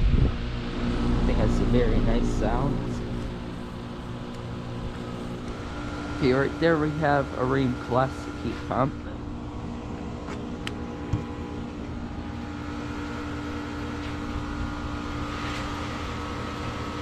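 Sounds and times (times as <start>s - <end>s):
compressor hum: 0.0s - 17.0s
condenser fan rushing: 0.0s - 17.0s.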